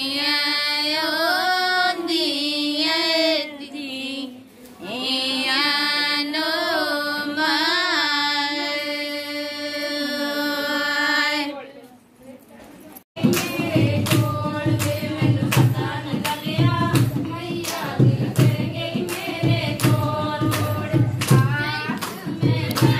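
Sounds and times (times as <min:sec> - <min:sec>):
women singing devotional song: 0:00.0 - 0:11.8, 0:13.2 - 0:22.9.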